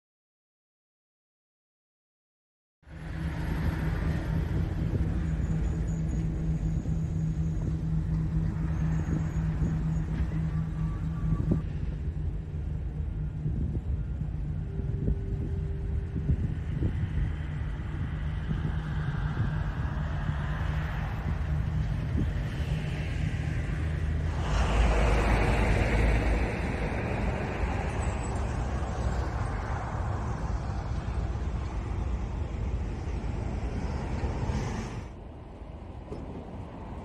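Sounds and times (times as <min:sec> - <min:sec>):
low hum: 0:02.8 - 0:37.0
low rumble: 0:02.8 - 0:37.0.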